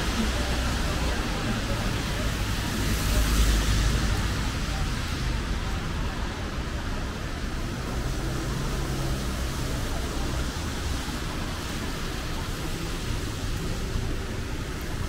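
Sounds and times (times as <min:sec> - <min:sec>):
low hum of vehicles: 0:00.0 - 0:15.0
rain: 0:00.0 - 0:15.0
tyre noise on wet road: 0:00.0 - 0:15.0.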